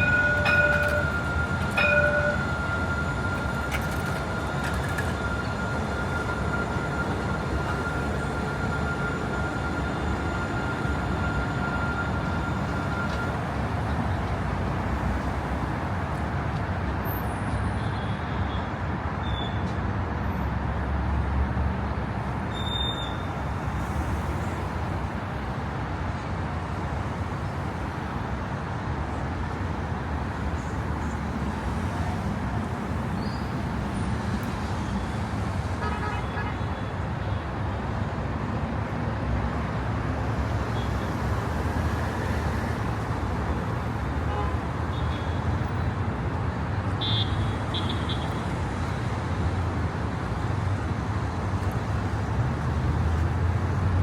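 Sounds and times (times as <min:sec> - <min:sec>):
low rumble of traffic: 0:00.0 - 0:54.0.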